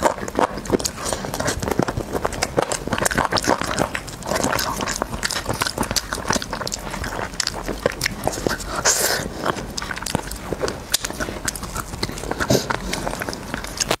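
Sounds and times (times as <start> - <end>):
wet mouth clicks and smacks: 0.0 - 14.0.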